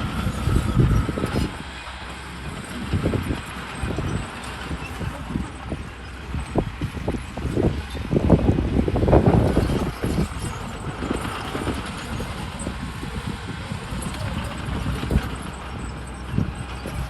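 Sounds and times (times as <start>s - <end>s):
heavy machinery engine rumble: 0.0s - 17.0s
machinery clanking and rattling: 0.0s - 17.0s.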